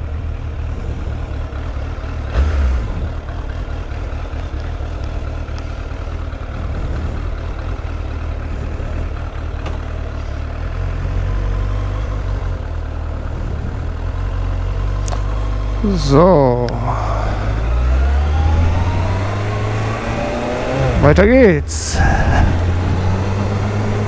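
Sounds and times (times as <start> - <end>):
motorcycle engine idling: 0.0 - 19.4.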